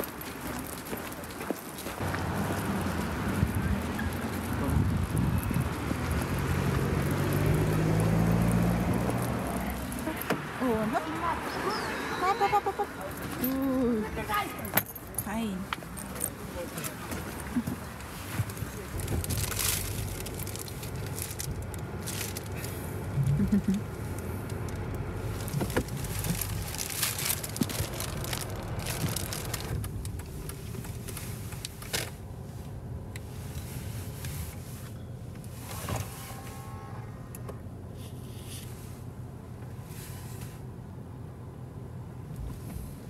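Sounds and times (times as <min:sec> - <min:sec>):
car engine and road hum: 0:00.0 - 0:43.0.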